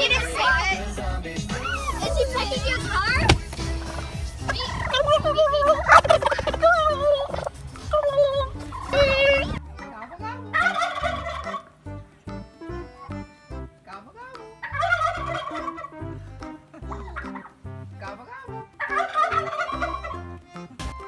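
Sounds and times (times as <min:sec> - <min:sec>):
turkey gobbling: 0:01.5 - 0:13.1, 0:14.2 - 0:20.9.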